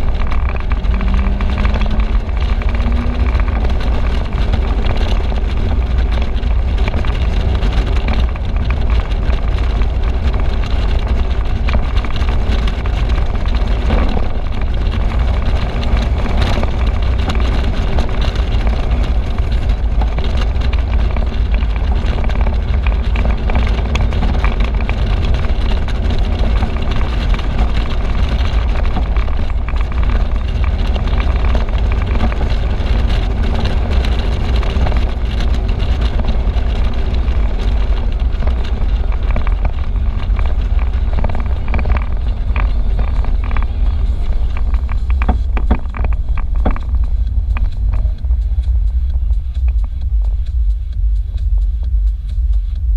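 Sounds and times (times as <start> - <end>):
wind rumble on microphone: 0.0 - 52.9
wind rush and road noise: 0.0 - 52.9.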